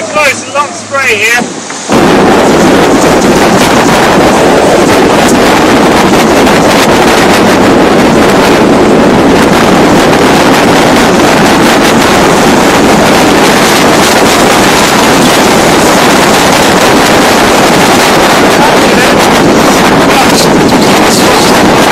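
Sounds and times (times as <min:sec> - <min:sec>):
water rushing past hulls: 0:00.0 - 0:21.9
wind buffeting microphone: 0:00.0 - 0:21.9.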